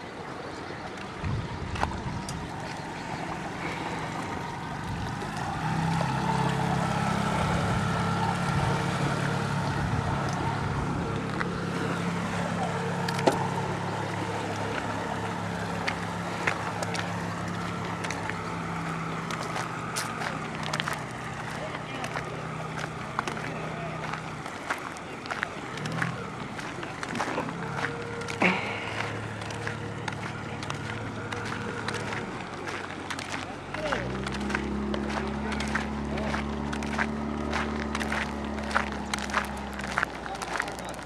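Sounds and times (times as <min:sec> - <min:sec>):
motorboat engine running: 0:00.0 - 0:41.0.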